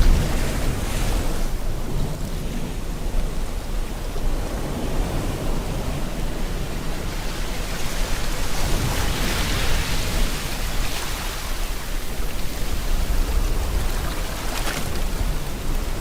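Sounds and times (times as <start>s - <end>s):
ocean surf rumble: 0.0s - 16.0s
steady rain: 0.0s - 16.0s
wave washing up: 0.0s - 16.0s.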